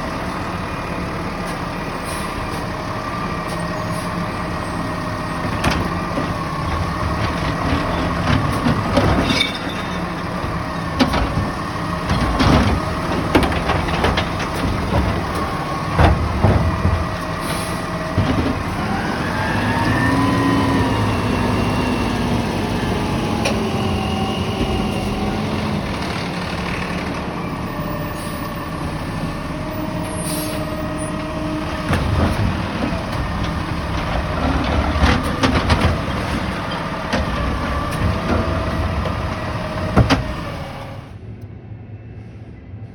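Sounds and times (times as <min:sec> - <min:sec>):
diesel engine running: 0:00.0 - 0:41.4.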